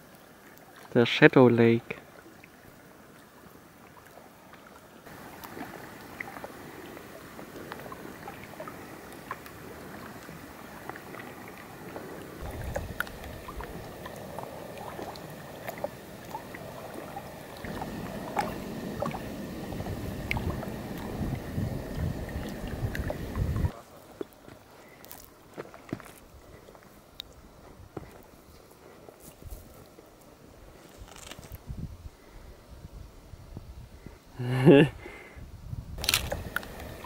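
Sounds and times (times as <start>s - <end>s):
waves lapping on shore: 0.0s - 30.8s, 36.0s - 37.0s.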